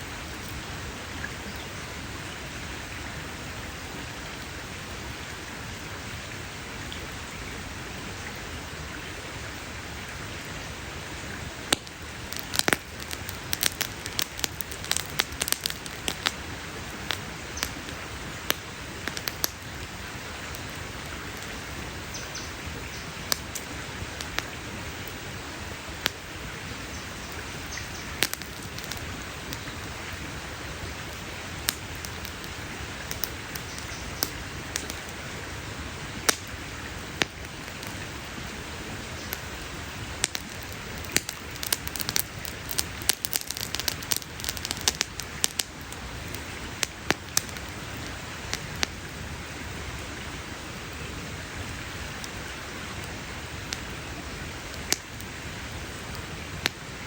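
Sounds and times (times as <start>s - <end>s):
fire hissing: 9.6s - 57.0s
campfire crackling and popping: 10.0s - 57.0s.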